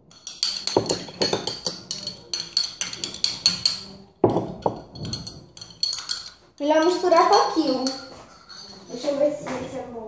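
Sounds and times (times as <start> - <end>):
spoon clinking in glass cup: 0.0 - 9.0.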